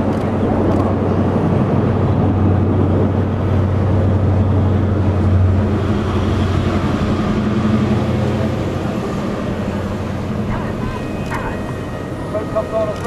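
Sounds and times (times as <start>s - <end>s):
jet engines rumbling overhead: 0.0s - 13.0s.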